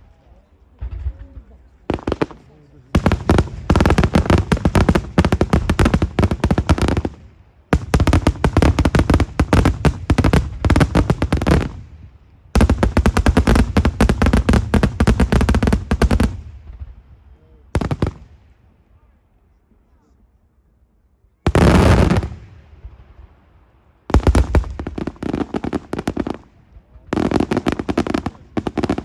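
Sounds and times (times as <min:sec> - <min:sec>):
fireworks bangs: 0:00.7 - 0:17.1, 0:17.7 - 0:18.6, 0:21.5 - 0:23.3, 0:24.1 - 0:29.0.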